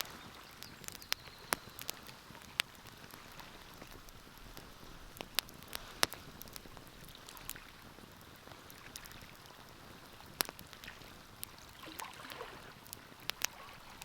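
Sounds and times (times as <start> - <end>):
soft steady hiss: 0.0 - 14.0
wood fire crackling and popping: 0.0 - 14.0.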